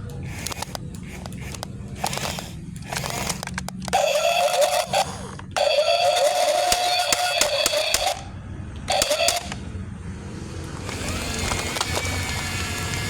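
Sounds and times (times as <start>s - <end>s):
toy motor and gearbox whining: 0.0s - 8.3s, 8.9s - 9.6s, 10.7s - 13.0s
gear clicking: 0.0s - 9.6s, 10.7s - 13.0s.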